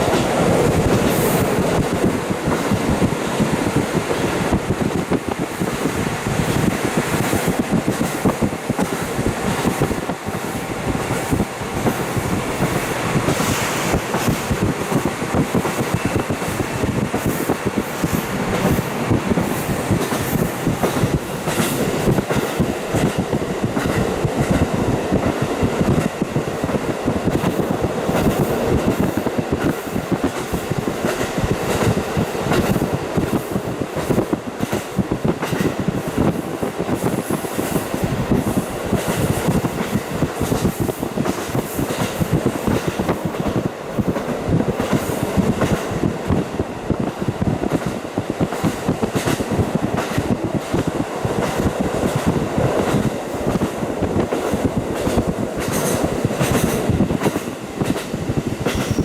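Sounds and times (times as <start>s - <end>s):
rushing air: 0.0s - 59.0s
wheels clicking on rail: 0.0s - 59.0s.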